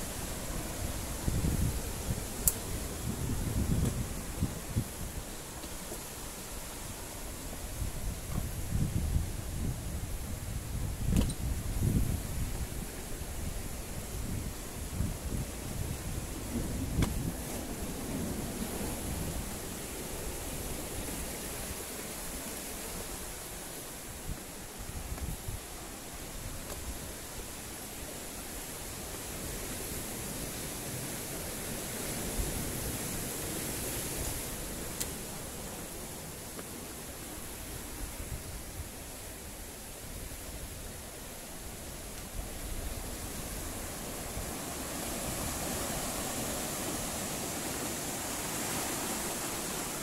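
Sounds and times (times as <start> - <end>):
sea surf breaking on rocks: 0.0 - 50.0.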